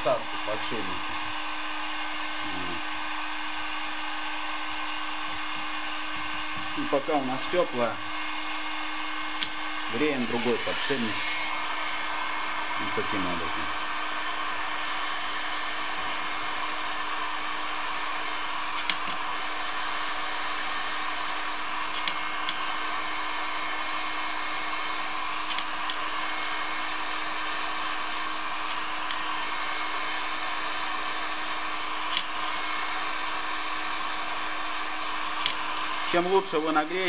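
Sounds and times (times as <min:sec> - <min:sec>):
heat gun blowing air: 0:00.0 - 0:37.0.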